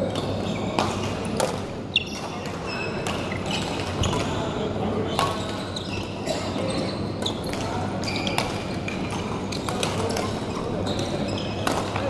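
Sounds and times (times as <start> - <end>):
sneaker squeaks on court floor: 1.9 - 12.0.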